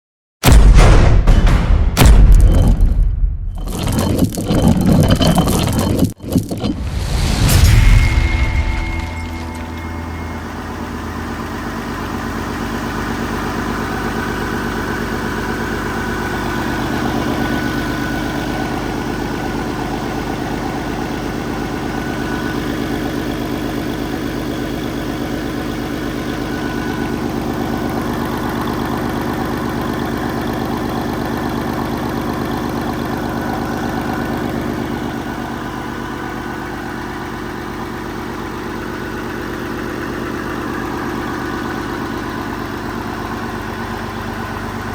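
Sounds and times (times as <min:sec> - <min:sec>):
diesel engine idling: 0:08.3 - 0:44.9.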